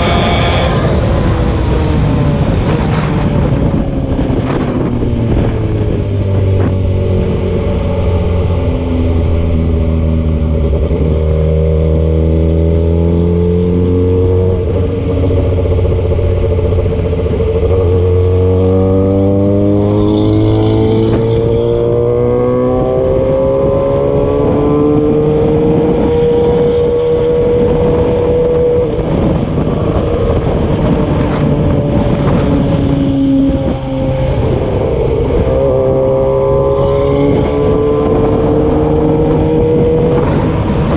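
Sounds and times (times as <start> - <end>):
engine shifting through gears: 0.0 - 40.9.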